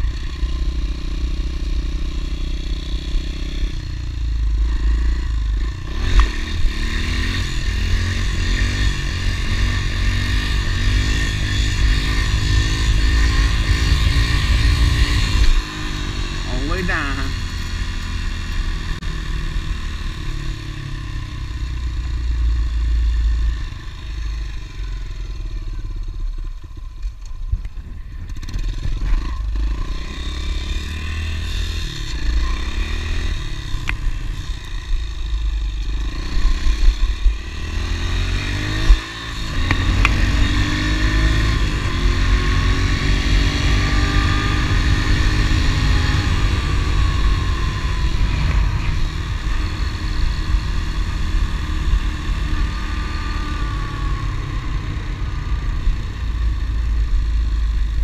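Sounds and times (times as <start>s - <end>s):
motorbike engine revving: 0.0s - 27.1s, 28.1s - 58.0s
low wind rumble: 3.7s - 25.1s, 31.1s - 58.0s.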